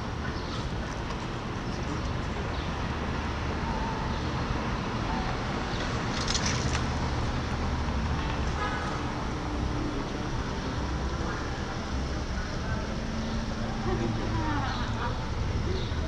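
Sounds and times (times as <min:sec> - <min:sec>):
cars driving on cobblestones: 0:00.0 - 0:16.0.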